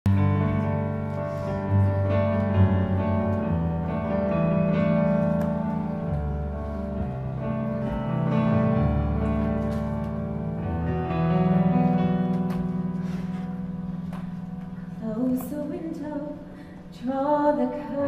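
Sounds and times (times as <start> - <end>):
slow piano chords: 0.1 - 18.0.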